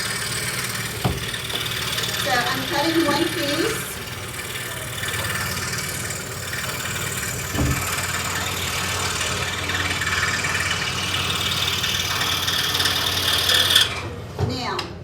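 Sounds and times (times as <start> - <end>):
scroll saw cutting: 0.0 - 14.1.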